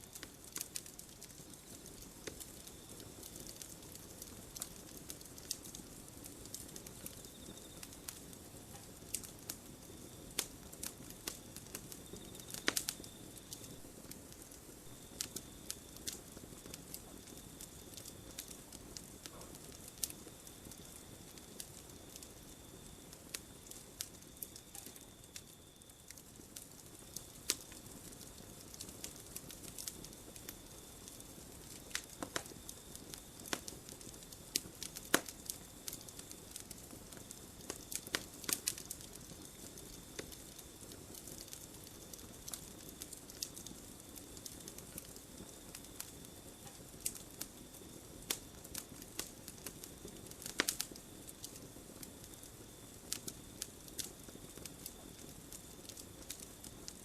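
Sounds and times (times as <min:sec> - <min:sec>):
burning wood hissing: 0:00.0 - 0:57.0
campfire pops and snaps: 0:00.1 - 0:57.0.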